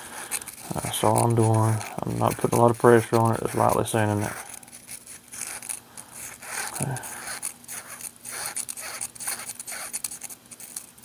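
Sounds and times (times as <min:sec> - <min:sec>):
sandpaper rasping on metal: 0:00.2 - 0:10.8.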